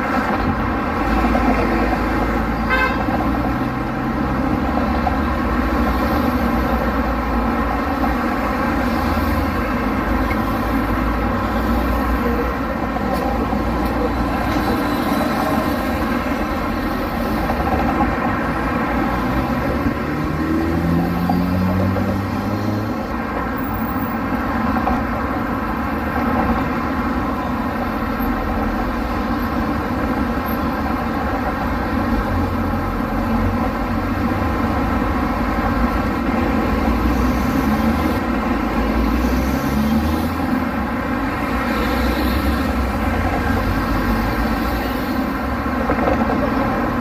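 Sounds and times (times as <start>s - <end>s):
car engines and tyres: 0.0s - 47.0s.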